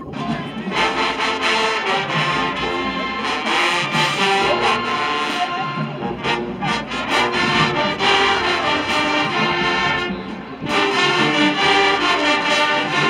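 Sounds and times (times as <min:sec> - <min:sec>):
brass band playing held chords: 0:00.0 - 0:13.0.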